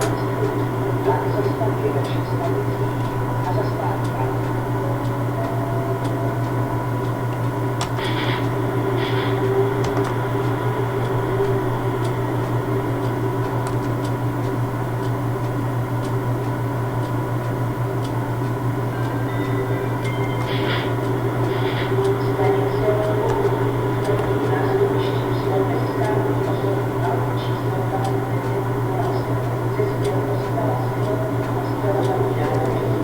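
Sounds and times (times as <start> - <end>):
railway equipment humming: 0.0 - 33.0.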